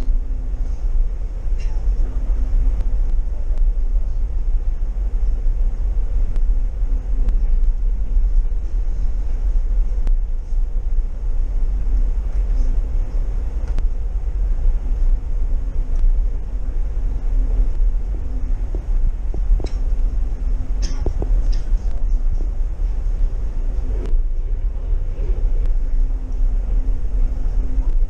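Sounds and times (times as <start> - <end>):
faint hum: 0.0 - 28.0
train running: 0.0 - 28.0.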